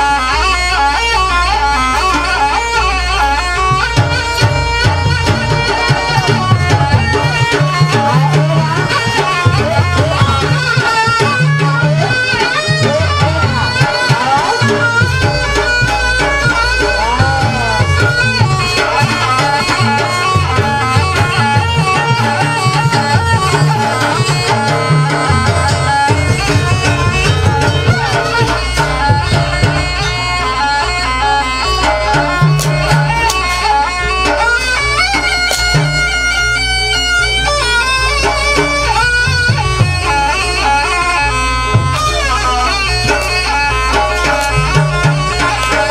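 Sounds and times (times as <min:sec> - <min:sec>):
hand drums beating: 0:00.0 - 0:45.9
high wavering melody: 0:00.0 - 0:45.9.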